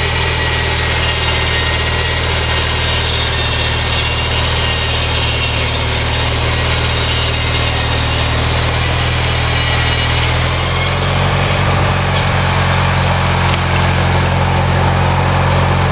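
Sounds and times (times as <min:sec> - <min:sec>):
small lawnmower engine running: 0:00.0 - 0:15.9.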